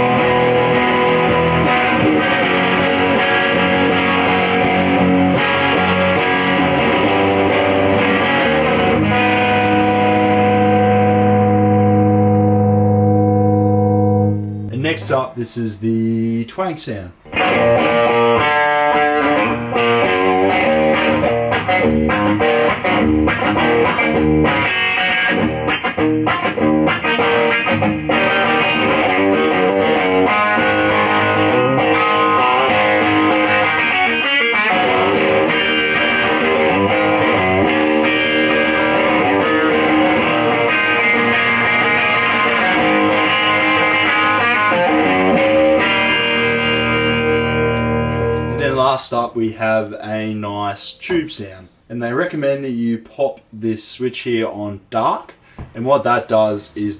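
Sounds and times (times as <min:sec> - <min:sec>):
overdriven electric guitar playing: 0:00.0 - 0:15.0, 0:17.2 - 0:48.7.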